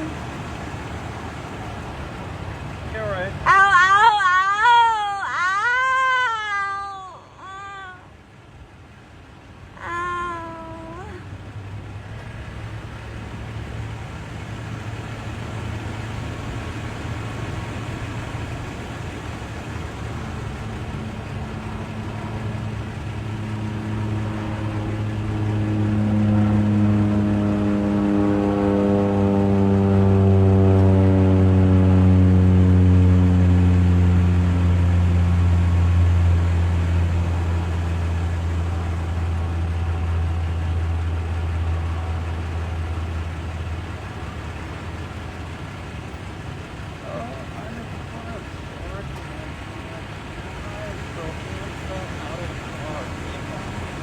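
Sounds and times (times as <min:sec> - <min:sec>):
vehicle engine running: 0:00.0 - 0:07.0, 0:07.6 - 0:54.0
steady low hum: 0:00.0 - 0:54.0.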